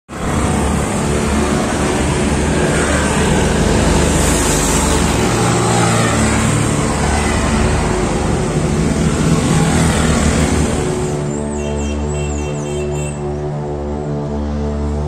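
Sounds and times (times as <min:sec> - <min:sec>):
motorcycle driving: 0:00.1 - 0:15.0.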